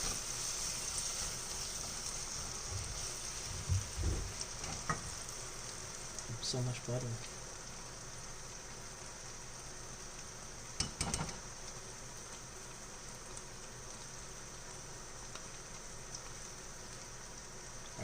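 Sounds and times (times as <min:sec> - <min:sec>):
butter sizzling in a pan: 0:00.0 - 0:18.0.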